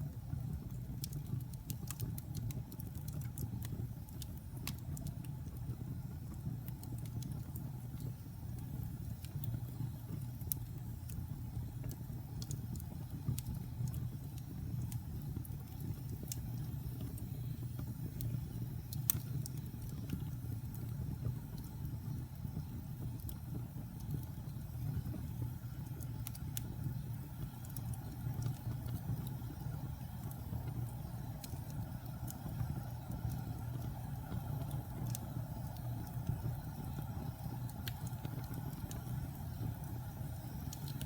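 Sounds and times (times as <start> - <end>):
fire low rumble: 0.0 - 41.0
wood fire crackling: 0.0 - 41.0.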